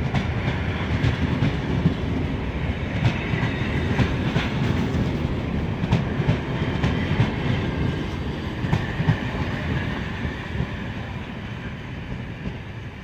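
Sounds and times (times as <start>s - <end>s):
train wheels rumbling over rail joints: 0.0s - 13.0s.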